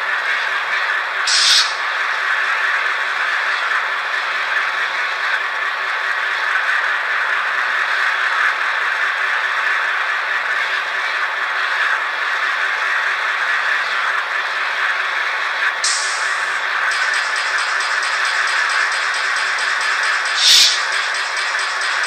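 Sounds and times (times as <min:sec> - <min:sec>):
tinny diesel engine idle from speaker: 0:00.0 - 0:22.0.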